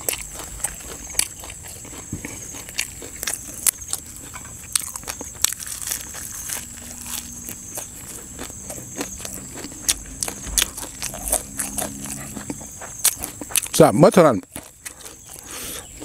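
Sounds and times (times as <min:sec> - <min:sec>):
man chewing raw greens: 0:00.0 - 0:16.0.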